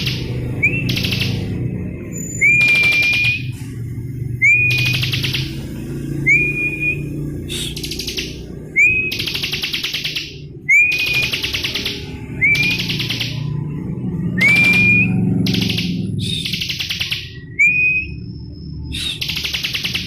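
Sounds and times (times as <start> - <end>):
bird singing whistle and buzzy trill: 0.0 - 20.0.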